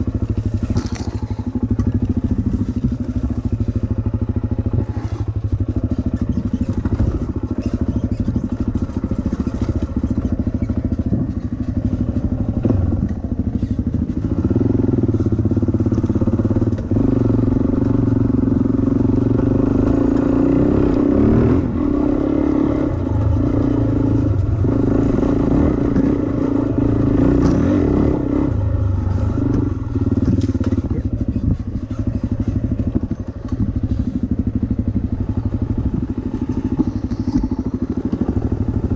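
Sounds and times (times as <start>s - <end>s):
dirt bike engine revving: 0.0s - 38.9s
trail clatter: 0.0s - 38.9s.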